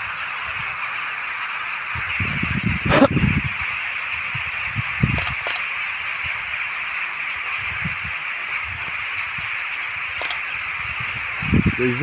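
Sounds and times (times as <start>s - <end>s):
rooks cawing: 0.0s - 12.0s.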